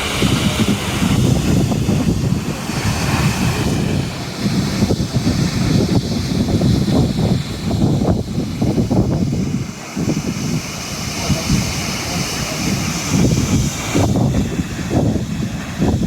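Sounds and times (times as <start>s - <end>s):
waterfall roaring into sea: 0.0s - 16.0s
wind buffeting microphone: 0.0s - 16.0s.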